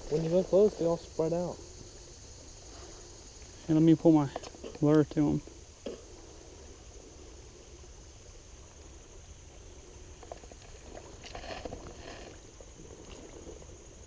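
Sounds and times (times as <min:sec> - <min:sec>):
river water sloshing: 0:00.0 - 0:14.0.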